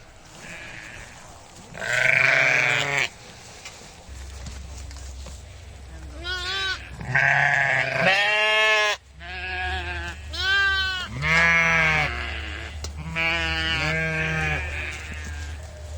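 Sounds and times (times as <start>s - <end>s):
farm animals bleating: 0.3s - 3.2s, 5.8s - 15.9s.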